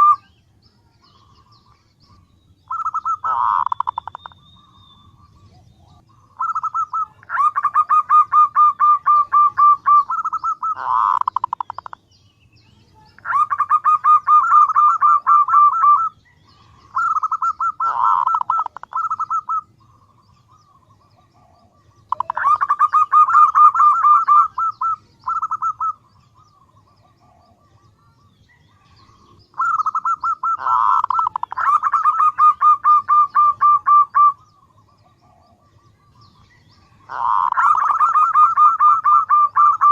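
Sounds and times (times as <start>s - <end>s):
dove pulsing coos: 0.0s - 0.3s, 1.2s - 12.0s, 13.2s - 39.9s.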